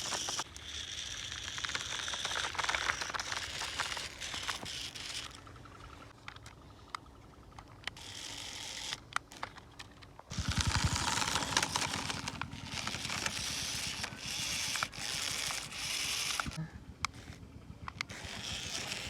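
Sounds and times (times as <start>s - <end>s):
small motor and gears whirring: 0.0s - 19.0s.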